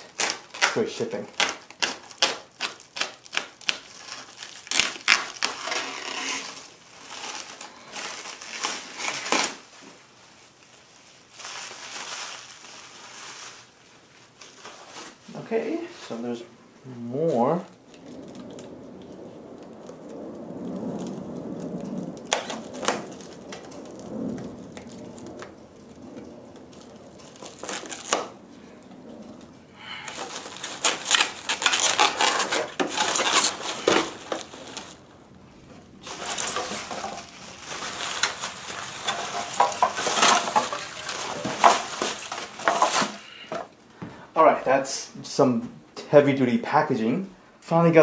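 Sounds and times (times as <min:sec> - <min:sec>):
bubble wrap crinkling: 0:00.0 - 0:44.5.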